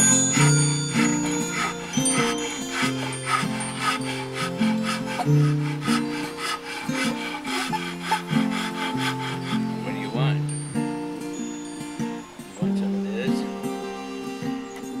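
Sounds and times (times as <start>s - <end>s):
acoustic background music: 0.0s - 15.0s.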